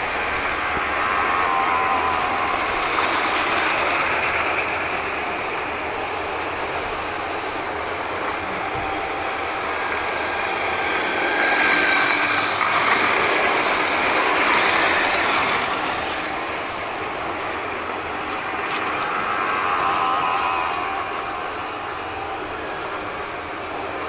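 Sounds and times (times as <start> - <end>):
model train motors whirring: 0.0 - 24.0
wheels running on rails: 0.0 - 24.0.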